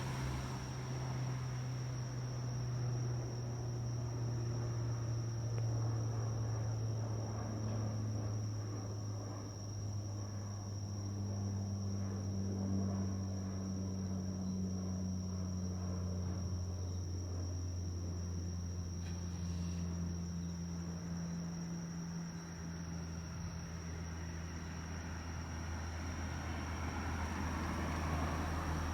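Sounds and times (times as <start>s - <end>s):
crickets trilling: 0.0s - 28.9s
distant engine drone: 0.0s - 28.9s.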